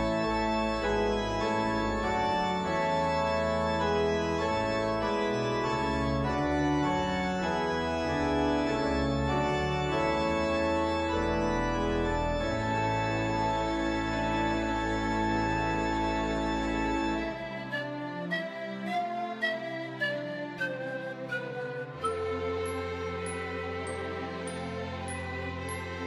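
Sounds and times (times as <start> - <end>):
pipe organ playing chords: 0.0 - 18.3, 21.9 - 26.0.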